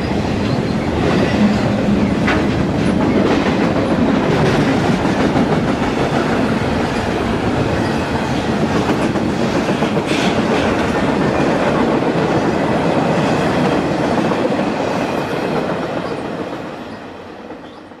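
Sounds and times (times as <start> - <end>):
freight train rumbling past: 0.0 - 17.9.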